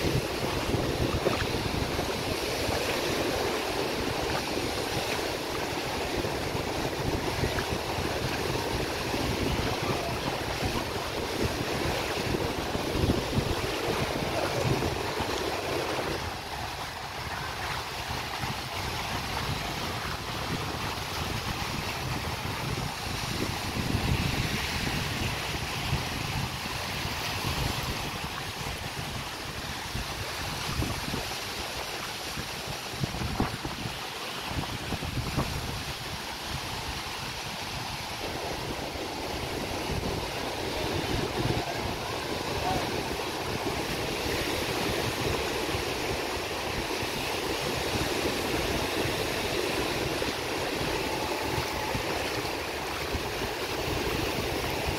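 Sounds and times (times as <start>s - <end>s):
waves washing onto beach: 0.0s - 54.9s
wind buffeting microphone: 0.0s - 54.9s.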